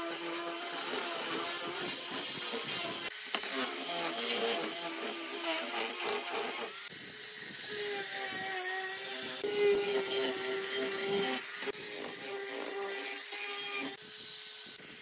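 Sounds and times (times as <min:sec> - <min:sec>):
angle grinder sanding wood: 0:00.0 - 0:14.8.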